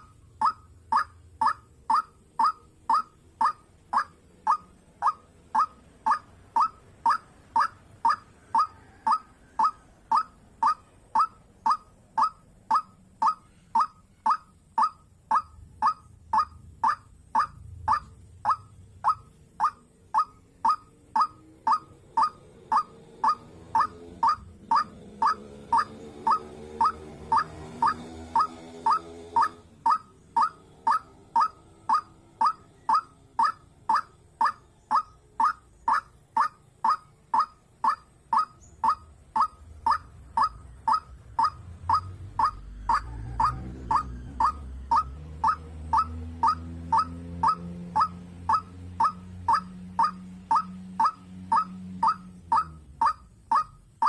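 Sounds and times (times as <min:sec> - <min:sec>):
waterhen calling: 0:00.0 - 0:54.0.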